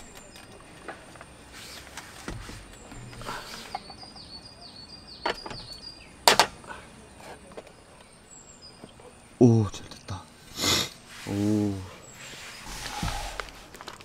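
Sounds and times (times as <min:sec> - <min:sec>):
bird chirping: 0:00.0 - 0:13.7.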